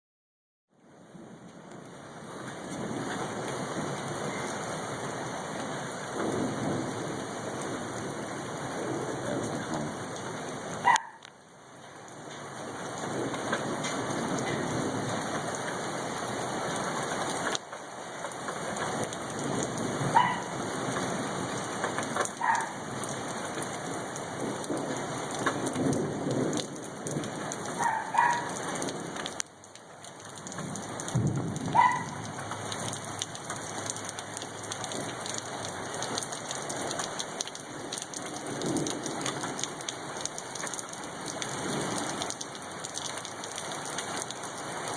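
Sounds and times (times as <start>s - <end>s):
hail and rain pelting: 1.0s - 44.9s.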